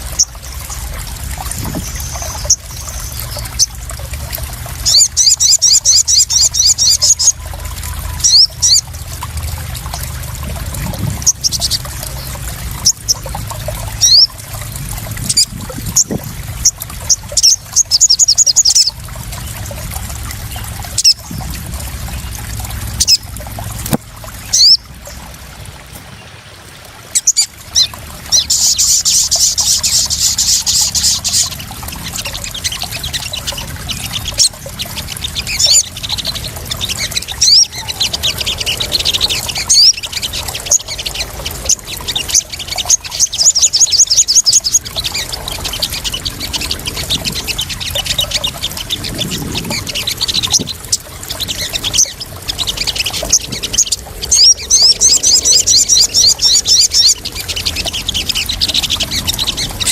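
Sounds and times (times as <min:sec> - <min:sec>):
birds trilling and chirping: 0:00.0 - 0:59.9
water splashing and trickling: 0:00.0 - 0:59.9.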